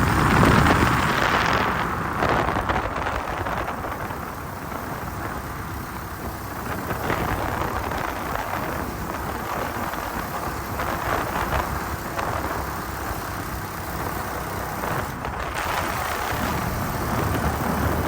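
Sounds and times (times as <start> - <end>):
motorcycle road noise: 0.0 - 18.0
wind rushing over microphone: 0.0 - 18.0.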